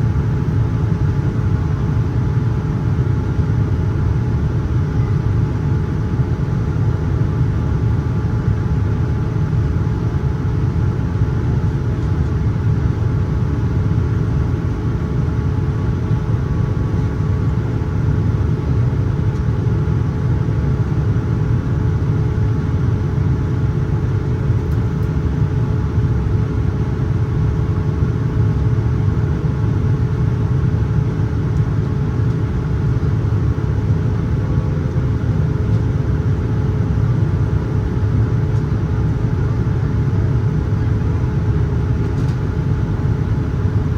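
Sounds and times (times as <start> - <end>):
constant hum tone: 0.0 - 43.9
jet engine and airflow drone: 0.0 - 43.9.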